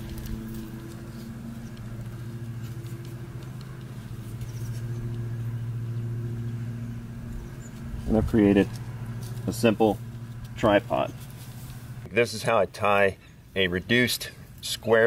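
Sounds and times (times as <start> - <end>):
low engine hum: 0.0 - 14.8.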